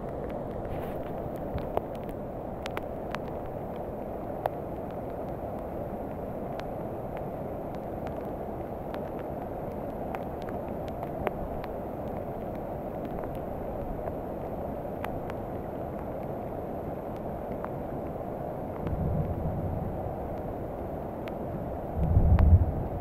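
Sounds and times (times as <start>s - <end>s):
water ticks and splashes: 0.0s - 23.0s.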